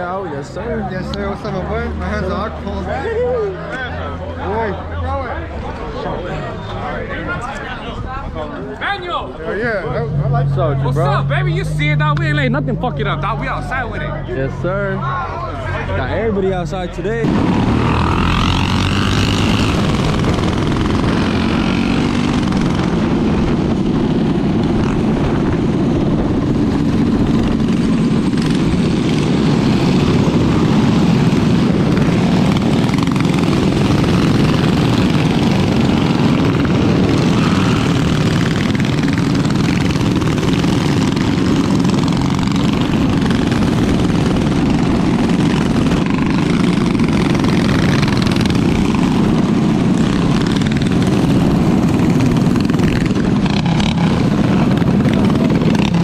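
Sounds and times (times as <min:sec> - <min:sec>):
mini bike engines droning: 0:00.0 - 0:56.0.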